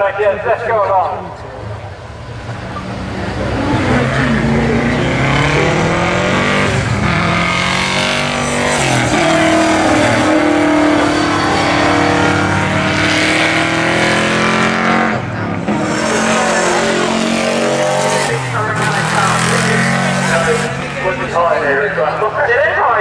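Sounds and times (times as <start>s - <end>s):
rally car engine accelerating: 0.5s - 23.0s.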